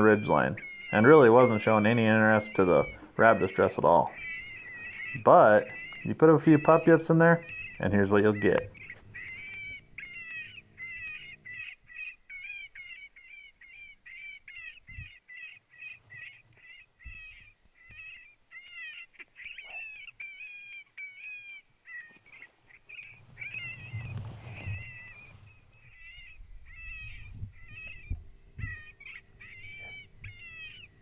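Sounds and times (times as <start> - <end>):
electronic coyote pup yips: 0.0 - 31.0.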